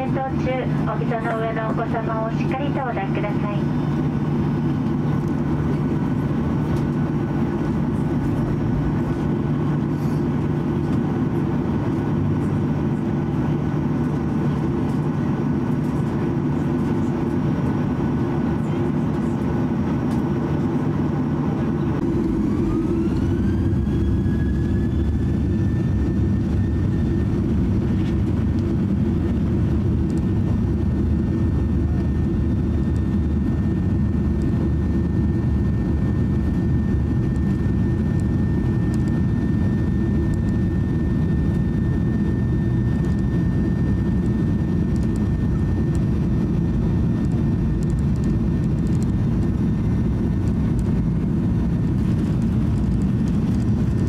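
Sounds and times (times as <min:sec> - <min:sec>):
jet engines humming and rumbling: 0:00.0 - 0:54.0
jet engines spooling up whine: 0:00.0 - 0:54.0.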